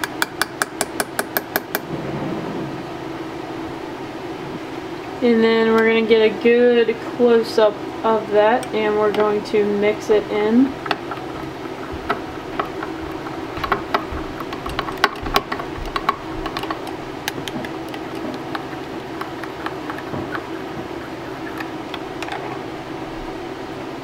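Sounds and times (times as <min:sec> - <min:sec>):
low hum: 0:01.6 - 0:24.0.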